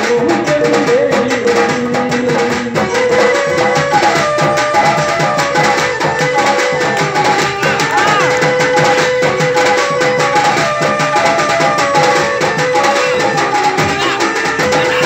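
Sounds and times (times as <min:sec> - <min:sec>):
fast hand-drum rhythm: 0:00.0 - 0:15.0.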